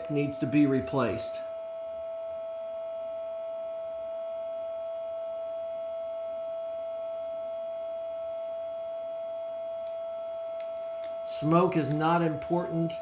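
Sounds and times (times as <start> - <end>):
small electric fan motor whine: 0.0 - 13.0.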